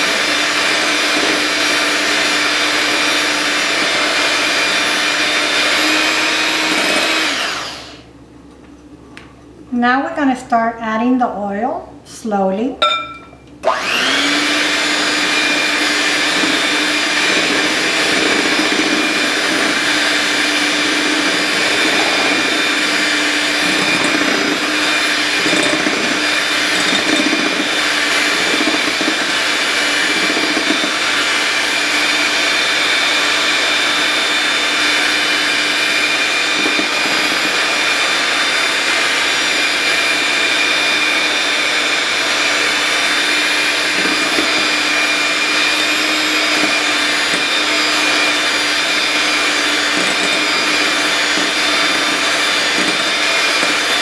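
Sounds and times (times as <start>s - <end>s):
electric hand mixer whirring: 0.0s - 8.2s, 13.6s - 54.0s.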